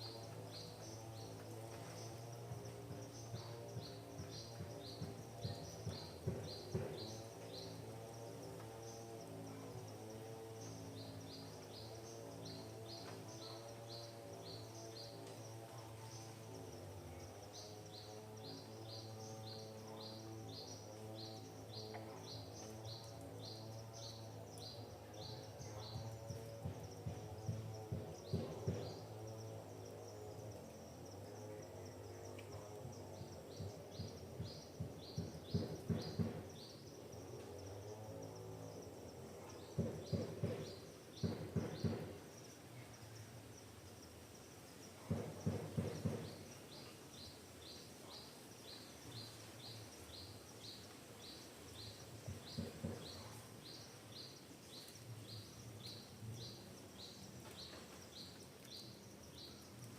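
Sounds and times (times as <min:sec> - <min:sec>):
high insect-like hum: 0:00.0 - 0:59.9.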